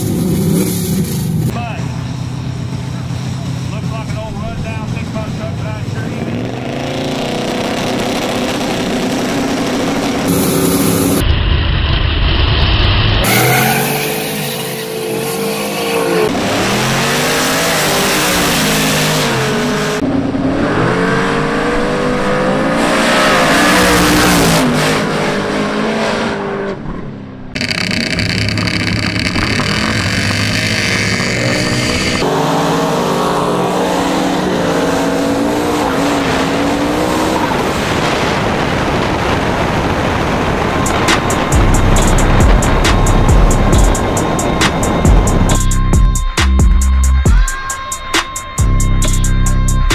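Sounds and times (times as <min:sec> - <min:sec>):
drag race engines accelerating: 0:00.0 - 0:46.0.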